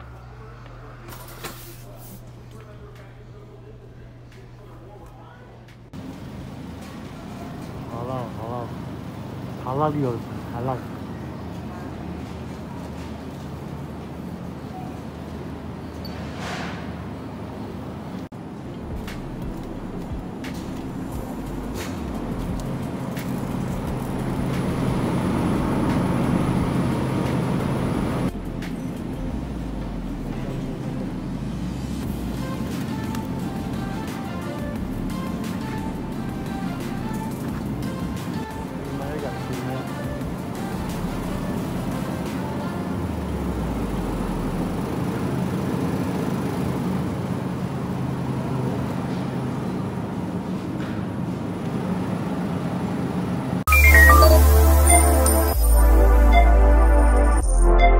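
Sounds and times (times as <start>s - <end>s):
low machinery hum: 0.0s - 16.0s, 16.8s - 53.5s
store background noise: 0.0s - 56.7s.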